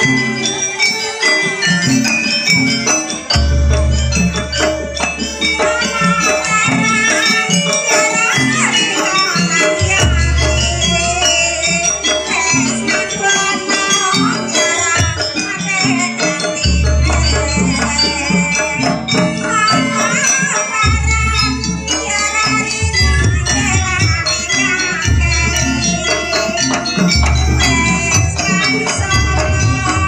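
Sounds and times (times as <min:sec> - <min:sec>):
jingling rattle: 0:00.0 - 0:30.0
wavering melody: 0:00.0 - 0:30.0
steady drumming: 0:02.5 - 0:30.0.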